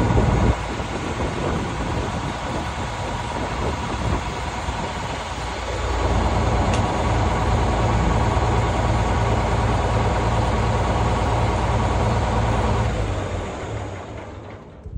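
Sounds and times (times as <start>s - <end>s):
diesel engine droning: 0.0s - 14.9s.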